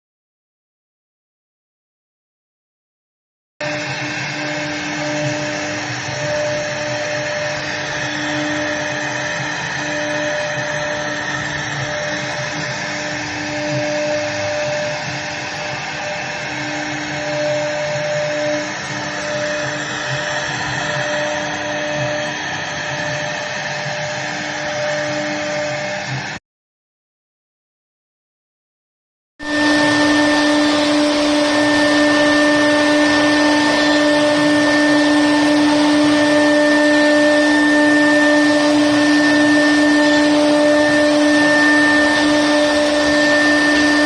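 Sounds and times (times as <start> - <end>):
router spindle cutting wood: 3.6 - 26.4, 29.4 - 44.0.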